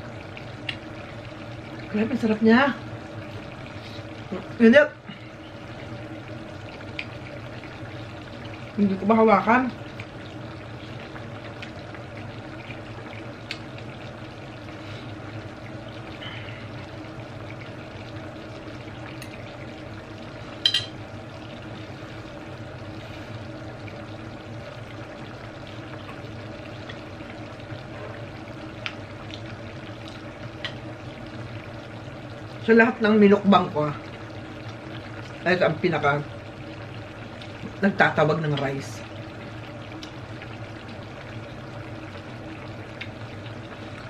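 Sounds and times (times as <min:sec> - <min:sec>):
background hum: 0:00.0 - 0:44.0.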